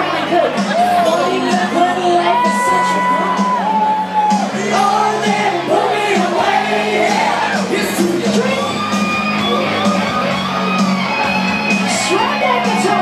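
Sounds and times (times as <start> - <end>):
crowd shouting and whooping: 0.0 - 13.0
rock karaoke track with singing: 0.0 - 13.0.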